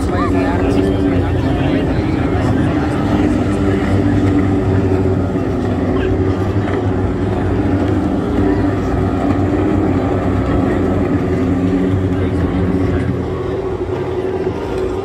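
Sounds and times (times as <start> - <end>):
powerboat engines droning: 0.0 - 15.0.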